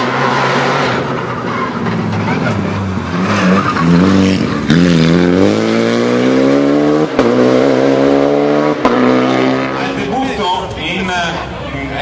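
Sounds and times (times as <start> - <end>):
rally car engine accelerating: 0.0 - 10.2.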